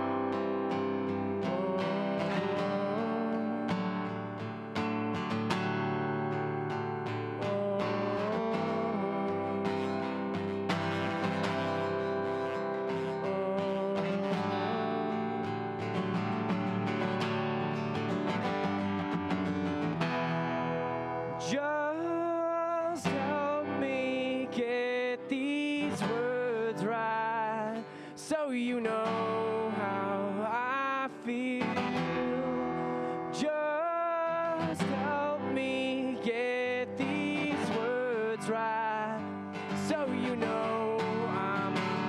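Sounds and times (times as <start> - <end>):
man singing: 0.0 - 4.8, 7.0 - 16.9, 21.2 - 42.0
acoustic guitar strumming: 0.0 - 42.0.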